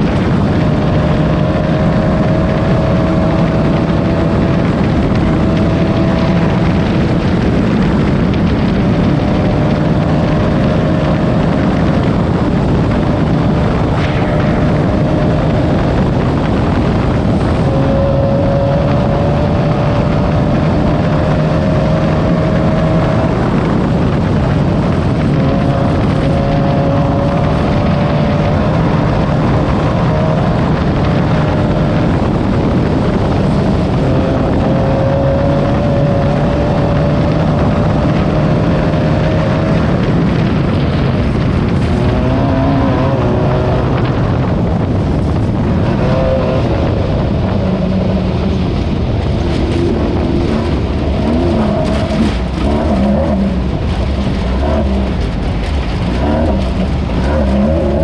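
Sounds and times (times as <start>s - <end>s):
loud rushing noise: 0.0s - 58.0s
race car engine running hard: 0.0s - 58.0s.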